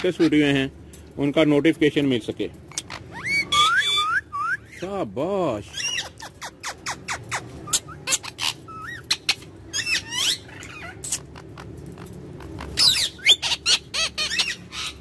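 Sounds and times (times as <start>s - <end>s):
parakeet chirping and squeaking: 0.0s - 0.6s, 2.6s - 4.9s, 5.6s - 15.0s.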